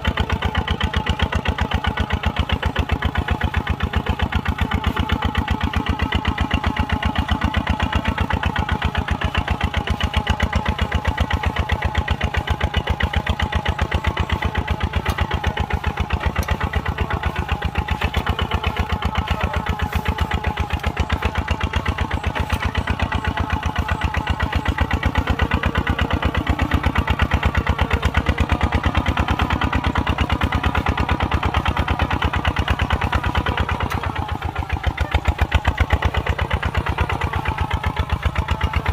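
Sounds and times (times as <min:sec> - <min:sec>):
single-cylinder diesel engine running: 0:00.0 - 0:38.9.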